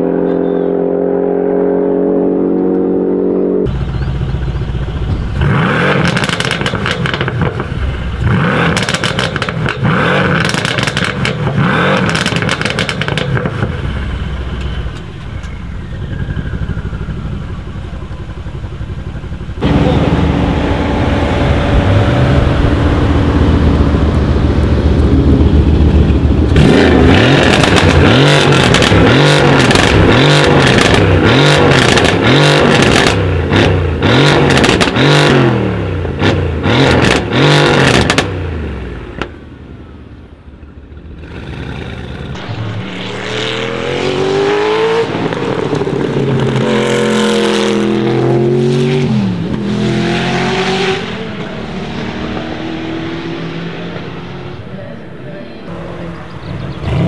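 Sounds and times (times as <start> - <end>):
engine revving in blips: 2.4 - 17.2, 19.2 - 39.3, 41.1 - 54.7, 55.5 - 57.0
car pulling away: 2.6 - 57.0
car engines idling: 3.6 - 35.0, 35.6 - 57.0.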